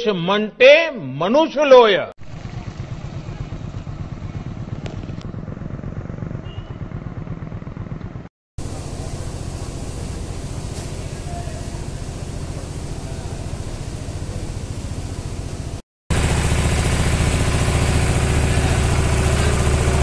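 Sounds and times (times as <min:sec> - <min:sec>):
engine running low rumble: 0:02.2 - 0:20.0.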